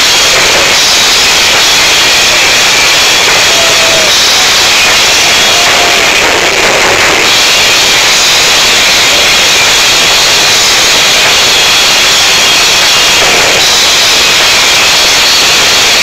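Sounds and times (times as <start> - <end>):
distorted heavy metal music: 0.0 - 16.0.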